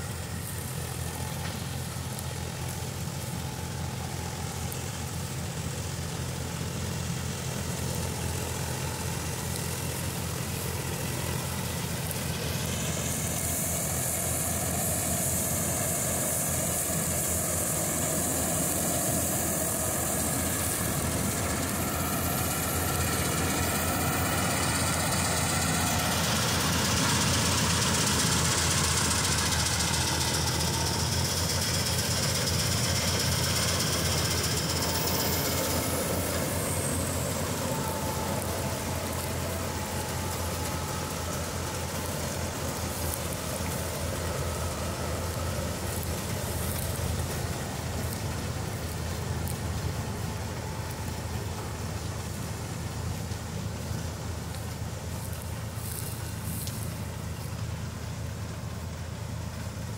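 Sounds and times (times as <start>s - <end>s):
high hiss with whine: 0.0s - 59.9s
tractor diesel engine running: 0.0s - 59.9s.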